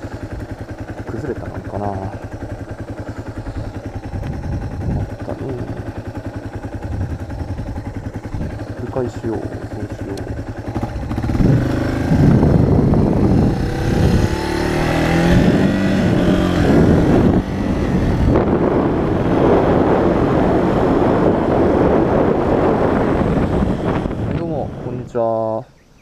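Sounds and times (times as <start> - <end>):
motorcycle engine: 0.0 - 26.0
wind noise on microphone: 2.4 - 9.1, 10.2 - 25.1.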